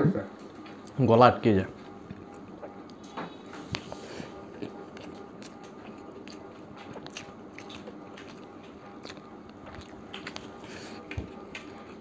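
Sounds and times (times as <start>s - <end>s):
biting and chewing: 2.0s - 12.0s.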